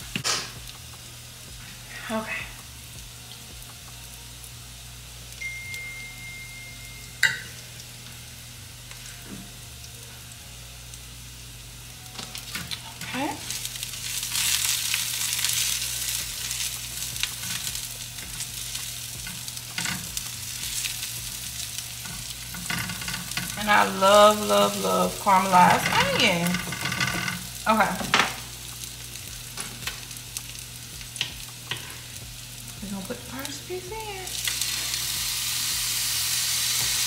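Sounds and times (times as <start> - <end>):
onions sizzling in a pan: 0.0 - 37.0.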